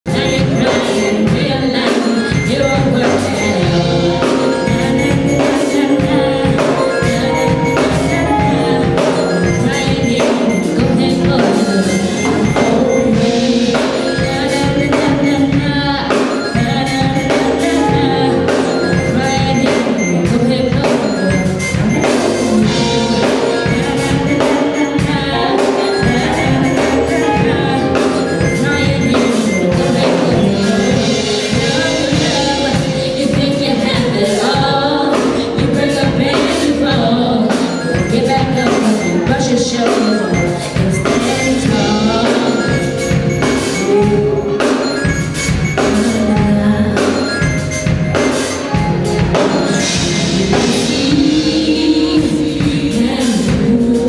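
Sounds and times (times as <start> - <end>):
loud music with singing: 0.1 - 54.0
steady drum beat: 0.1 - 54.0.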